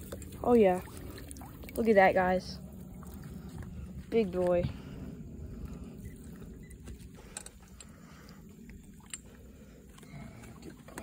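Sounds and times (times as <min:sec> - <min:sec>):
wind and water rumble: 0:00.0 - 0:11.0.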